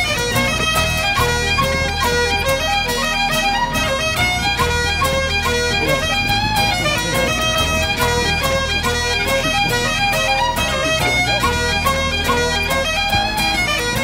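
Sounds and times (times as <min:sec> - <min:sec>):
bagpipes playing: 0:00.0 - 0:14.0
fiddle: 0:00.0 - 0:14.0.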